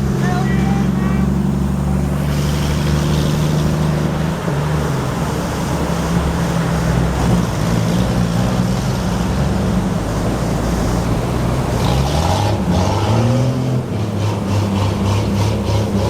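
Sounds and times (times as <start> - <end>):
continuous rushing noise: 0.0 - 16.0
engine running steadily: 0.0 - 16.0.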